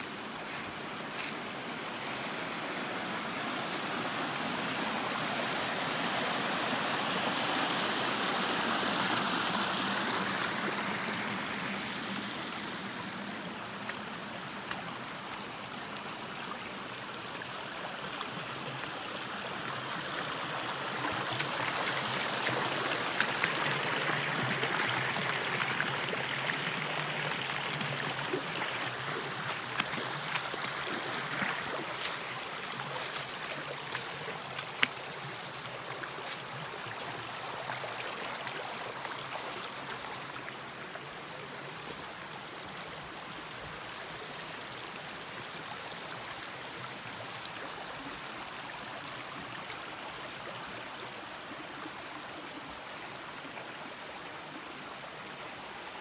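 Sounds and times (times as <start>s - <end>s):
creek splashing over stones: 0.0s - 56.0s.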